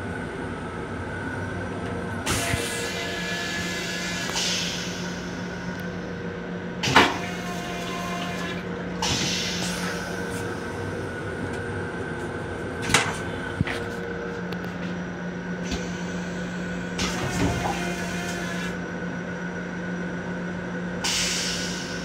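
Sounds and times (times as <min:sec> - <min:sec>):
train hum: 0:00.0 - 0:22.0.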